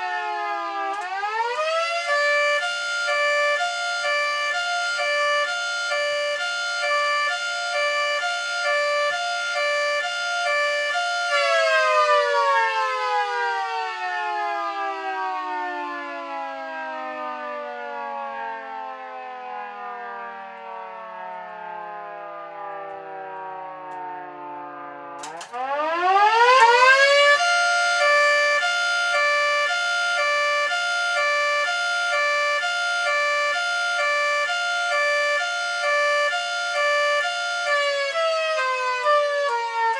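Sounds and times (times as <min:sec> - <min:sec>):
siren hi-lo signal: 0:00.0 - 0:15.6, 0:21.7 - 0:39.9.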